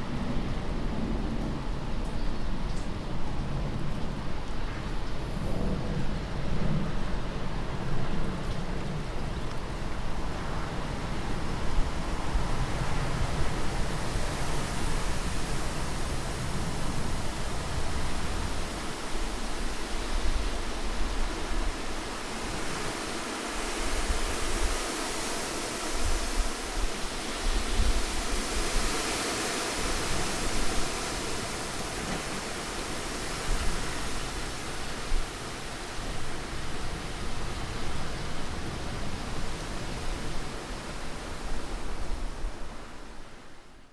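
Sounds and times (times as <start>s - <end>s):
strong wind gusting: 0.0s - 43.7s.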